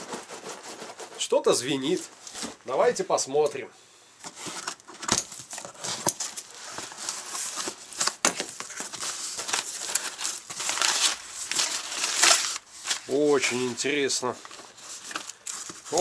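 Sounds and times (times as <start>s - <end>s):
packing paper rustling: 0.0s - 2.7s, 4.2s - 16.0s.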